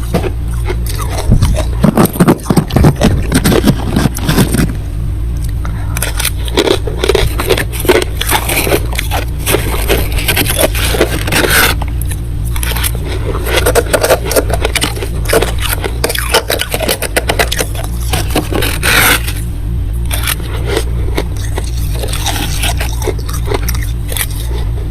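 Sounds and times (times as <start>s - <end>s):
frost scraping: 0.0s - 4.9s, 6.0s - 24.9s
steady low hum: 0.0s - 24.9s.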